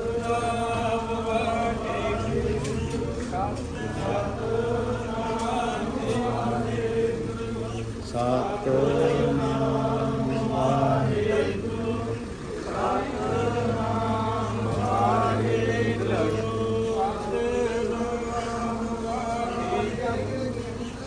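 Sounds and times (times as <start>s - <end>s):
devotional chanting: 0.0s - 21.0s.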